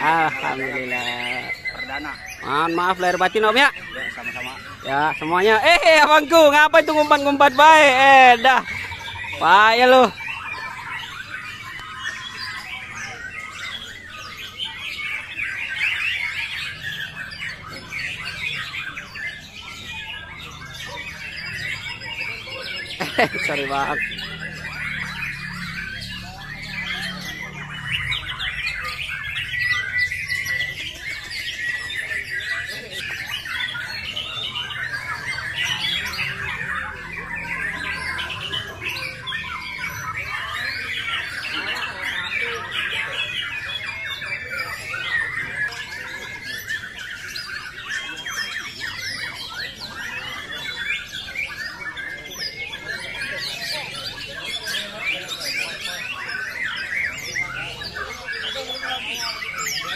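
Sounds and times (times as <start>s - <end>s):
songbirds singing in chorus: 0.0s - 59.9s.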